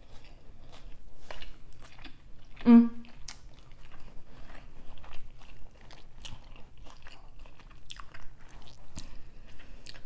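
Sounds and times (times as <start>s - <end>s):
person chewing burger: 0.0s - 10.0s.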